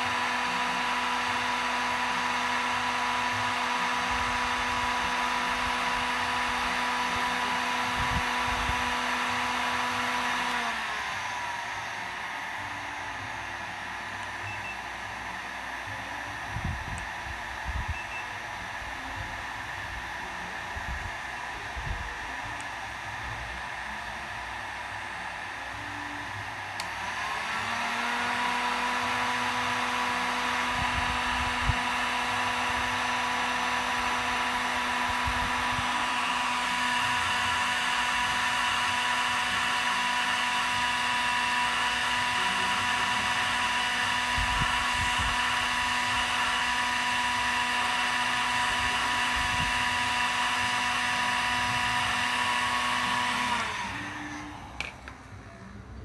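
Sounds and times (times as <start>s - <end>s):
heat gun fan whirring: 0.0s - 56.0s.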